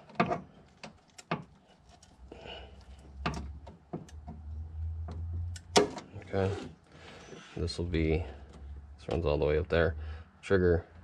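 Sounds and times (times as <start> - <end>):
hands rustling wiring: 0.0 - 9.4.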